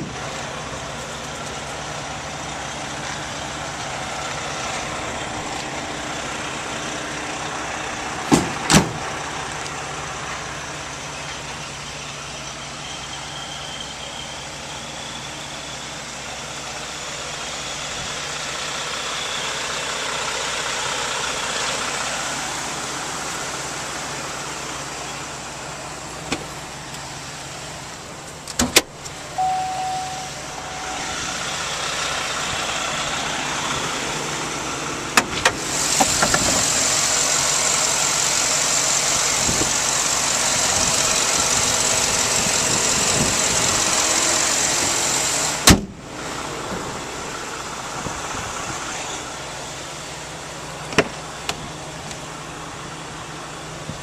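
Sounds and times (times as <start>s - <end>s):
motor vehicle noise: 0.0s - 54.0s.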